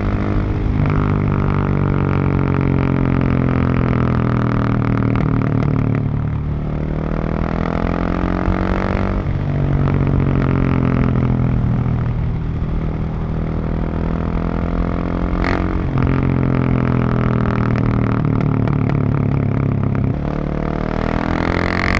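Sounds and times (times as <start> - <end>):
motorcycle engine droning: 0.0 - 21.9.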